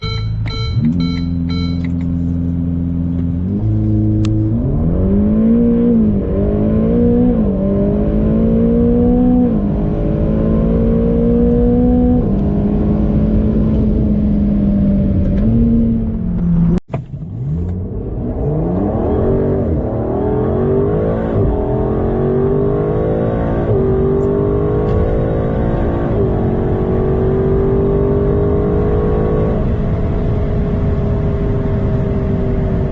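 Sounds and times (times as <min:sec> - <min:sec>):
sports car engines accelerating: 0:00.0 - 0:32.9.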